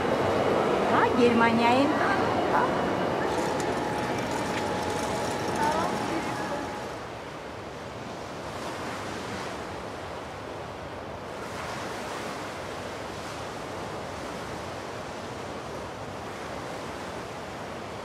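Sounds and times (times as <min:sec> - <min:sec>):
rushing wind or surf: 0:00.0 - 0:18.0.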